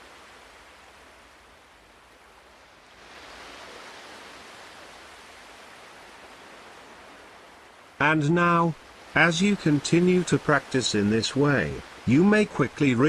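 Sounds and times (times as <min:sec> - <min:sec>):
faint ocean surf: 0:00.0 - 0:13.0.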